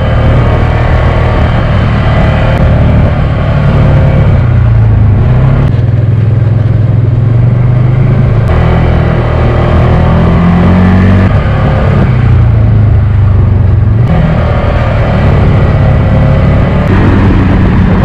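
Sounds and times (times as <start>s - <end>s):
off-road vehicle engine: 0.0s - 18.0s.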